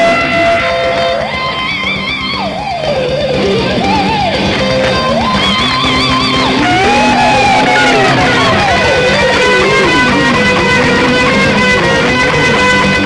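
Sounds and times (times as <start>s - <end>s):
electric guitar lead: 0.0s - 13.0s.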